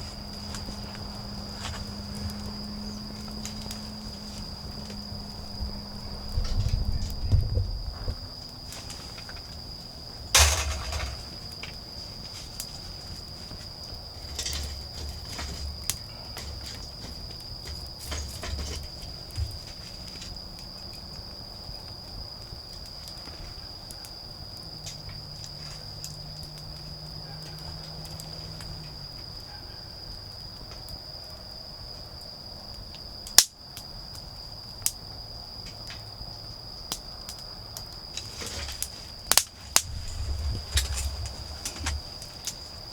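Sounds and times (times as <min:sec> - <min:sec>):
campfire crackling: 0:00.0 - 0:07.2, 0:07.8 - 0:29.4, 0:30.3 - 0:36.2, 0:36.8 - 0:42.9
crickets trilling: 0:00.0 - 0:42.9.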